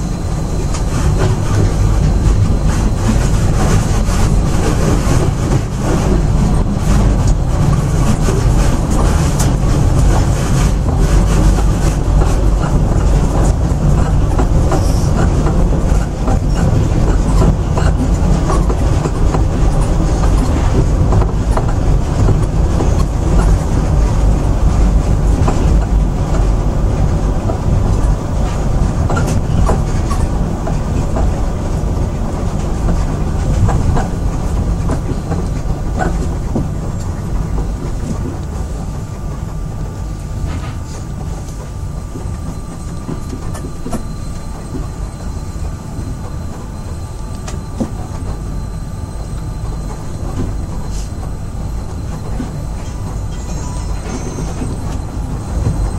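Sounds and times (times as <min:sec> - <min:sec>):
train low rumble: 0:00.0 - 0:55.9.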